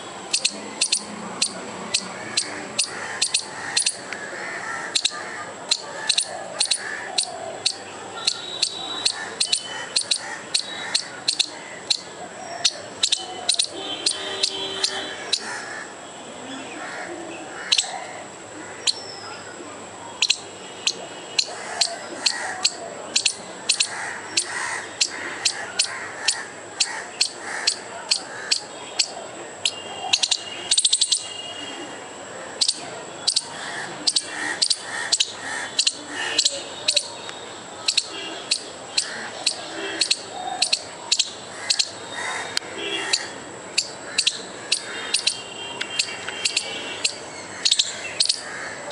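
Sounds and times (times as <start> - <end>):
squirrel alarm calls: 0.0 - 15.9, 16.8 - 19.5, 20.1 - 31.9, 32.5 - 48.9.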